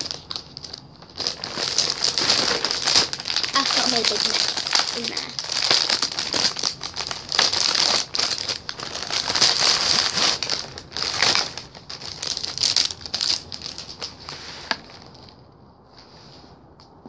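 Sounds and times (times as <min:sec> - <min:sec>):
plastic packaging crinkling: 0:00.0 - 0:15.5.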